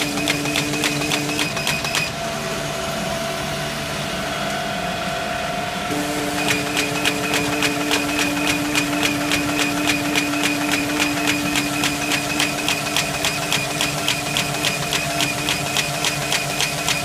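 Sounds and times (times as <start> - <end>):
paper folding machine running: 0.0 - 17.0.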